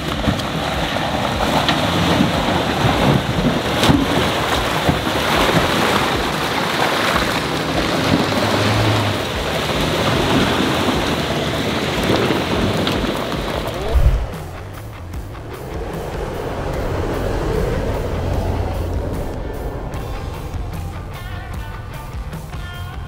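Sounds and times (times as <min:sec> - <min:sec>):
truck engine running hard: 0:00.0 - 0:23.0
tyres spinning in mud: 0:00.0 - 0:23.0.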